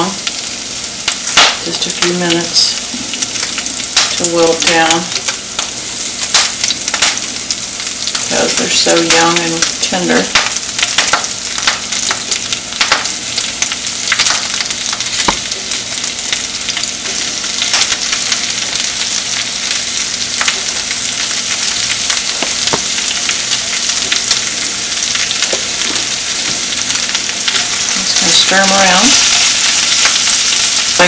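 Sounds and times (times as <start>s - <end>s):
leaves sizzling in hot oil: 0.0s - 31.0s.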